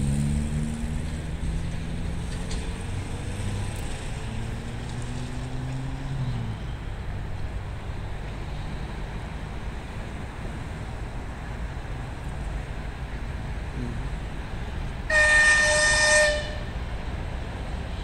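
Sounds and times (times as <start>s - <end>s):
vehicle rumble: 0.0s - 18.0s.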